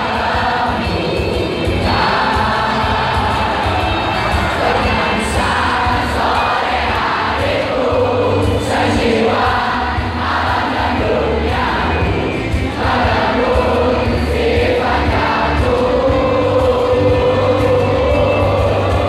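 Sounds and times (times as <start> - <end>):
crowd singing along: 0.0 - 19.0
live band music through pa: 0.0 - 19.0.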